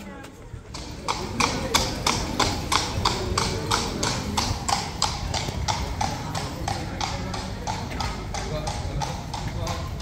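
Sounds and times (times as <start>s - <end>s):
horse hooves clip-clopping: 0.2s - 10.0s.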